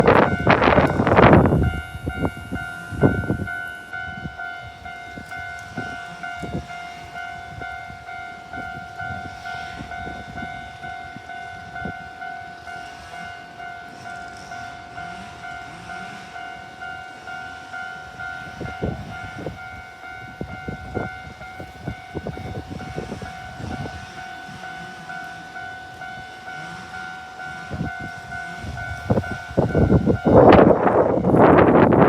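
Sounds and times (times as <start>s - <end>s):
level crossing warning bell: 0.0s - 32.0s.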